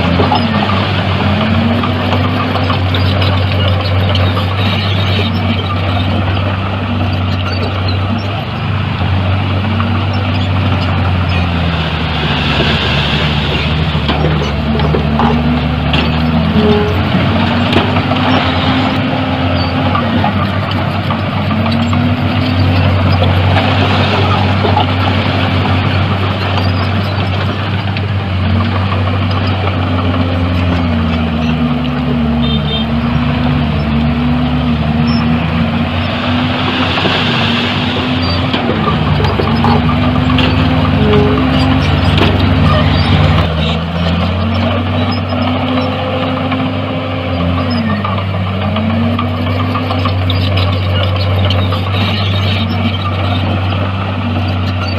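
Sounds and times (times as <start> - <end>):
heavy diesel machinery engine: 0.0 - 54.9.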